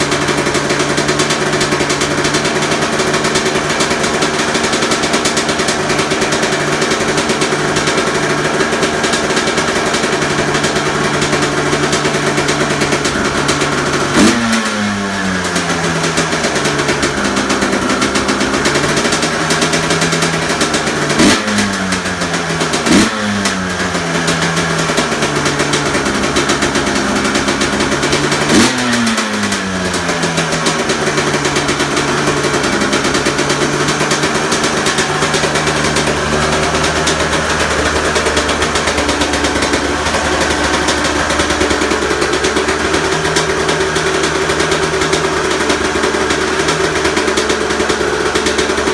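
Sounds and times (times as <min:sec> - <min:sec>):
dirt bike engine idling and revving: 0:00.0 - 0:48.9.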